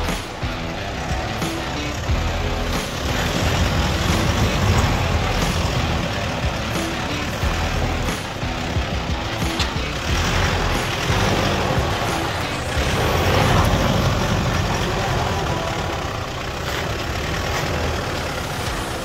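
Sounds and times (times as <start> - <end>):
vehicle engine under load: 0.0 - 19.0.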